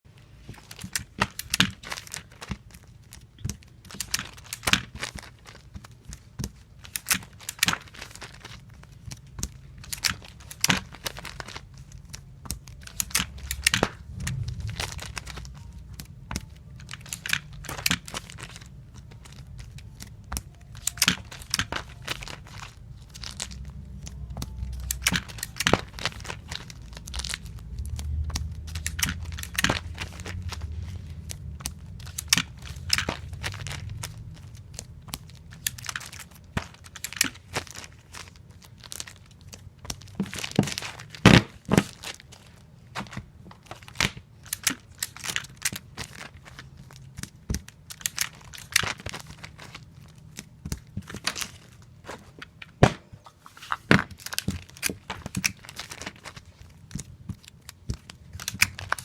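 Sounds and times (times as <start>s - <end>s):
handling noise: 0.1s - 59.0s.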